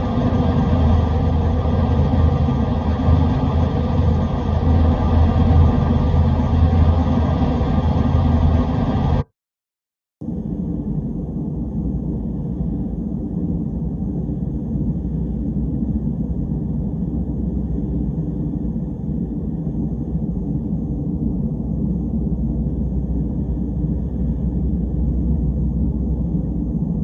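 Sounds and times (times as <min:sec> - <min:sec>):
deep steady rumble: 0:00.0 - 0:09.2, 0:10.2 - 0:27.0.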